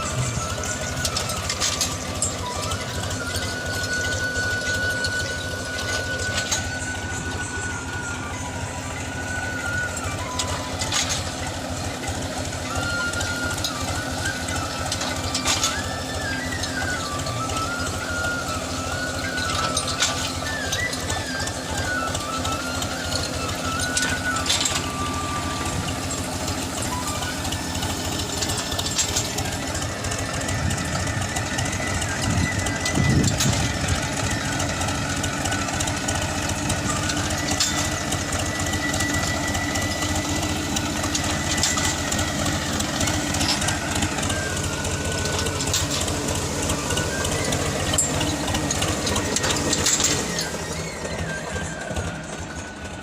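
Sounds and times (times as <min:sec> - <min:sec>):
tractor engine under load: 0:00.0 - 0:53.0.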